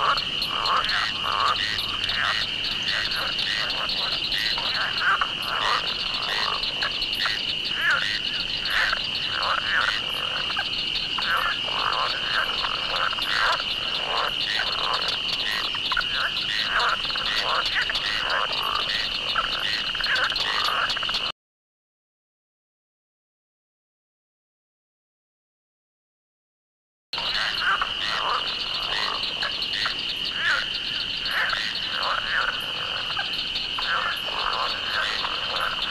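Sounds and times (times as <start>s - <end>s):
frogs croaking: 0.0s - 21.3s, 27.2s - 35.9s.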